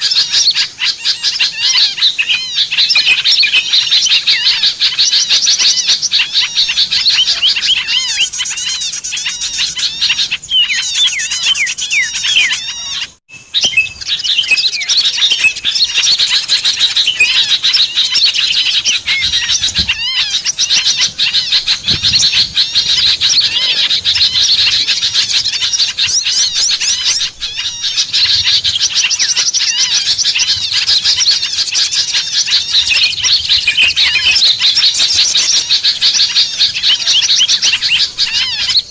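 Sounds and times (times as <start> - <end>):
chorus of songbirds chirping: 0.0 - 38.9.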